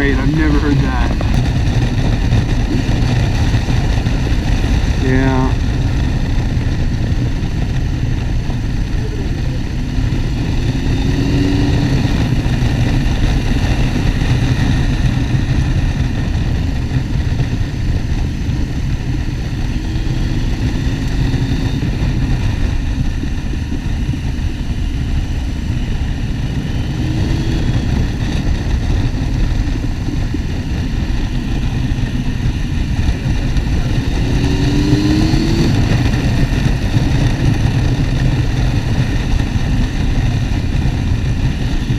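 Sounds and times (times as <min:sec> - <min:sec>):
motorcycle engine revving: 0:00.0 - 0:41.9
wind and road noise: 0:00.0 - 0:41.9.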